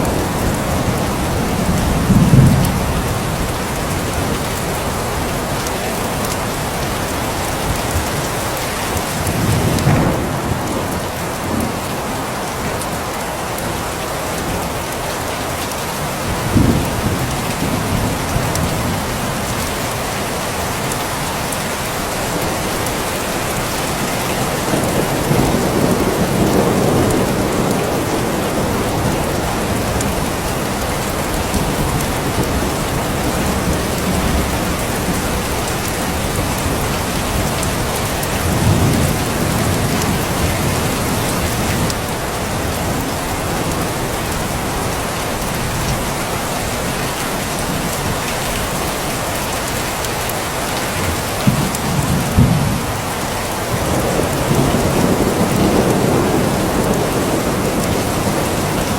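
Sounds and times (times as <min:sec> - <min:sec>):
thunder rumbling: 0:00.0 - 0:12.4, 0:16.3 - 0:19.9, 0:22.2 - 0:46.4, 0:51.0 - 0:58.9
steady rain falling: 0:00.0 - 0:58.9.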